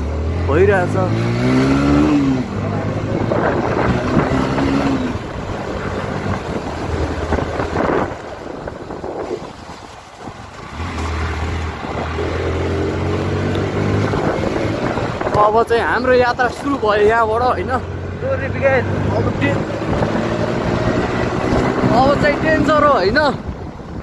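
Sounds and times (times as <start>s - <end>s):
wind and road rush: 0.0s - 24.0s
motorcycle engine running: 1.8s - 24.0s.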